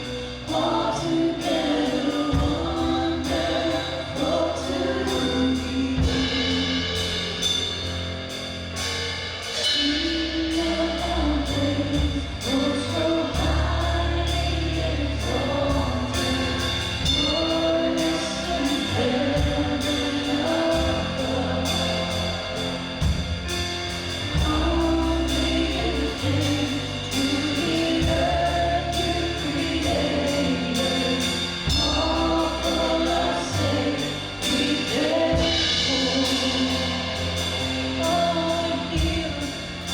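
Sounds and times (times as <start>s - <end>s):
group of voices singing: 0.0s - 8.0s, 9.6s - 39.9s
band playing: 0.0s - 39.9s.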